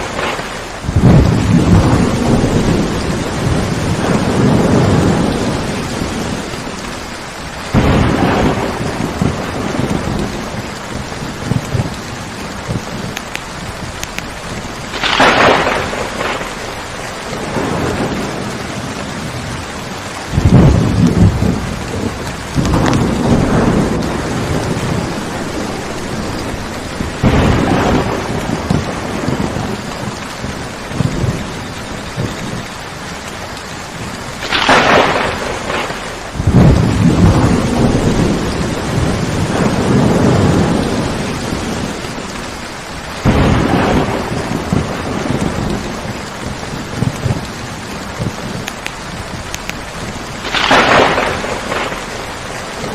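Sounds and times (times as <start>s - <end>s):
sharp thunder crack: 0.0s - 6.6s, 7.7s - 13.2s, 13.8s - 19.5s, 20.3s - 32.6s, 34.4s - 42.2s, 43.2s - 52.9s
heavy rainfall: 0.0s - 52.9s
thunder rumbling: 0.0s - 52.9s.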